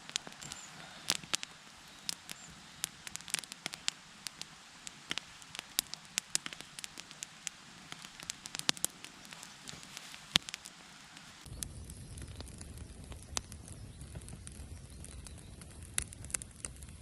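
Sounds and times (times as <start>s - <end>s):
campfire crackling: 0.0s - 17.0s
faint steady hiss: 0.0s - 17.0s.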